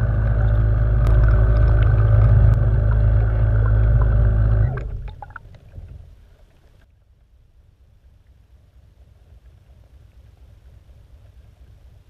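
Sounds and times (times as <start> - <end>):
model boat motor humming underwater: 0.0 - 12.0.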